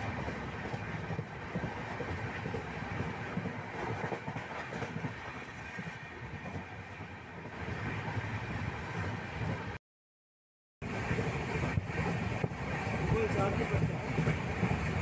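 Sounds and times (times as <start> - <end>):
train wheels rumbling on rail: 0.0 - 9.8, 10.8 - 15.0.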